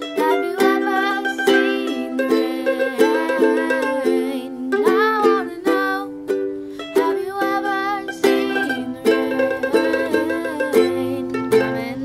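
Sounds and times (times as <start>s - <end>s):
boy singing: 0.0s - 12.0s
ukulele strumming: 0.0s - 12.0s.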